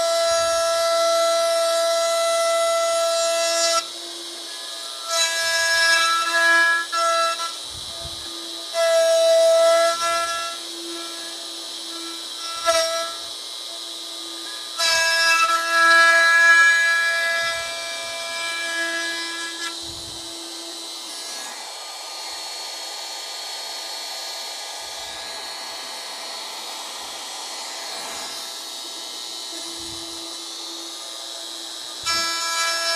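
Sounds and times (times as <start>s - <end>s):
router cutting wood: 0.0s - 32.9s
router whirring: 0.0s - 32.9s.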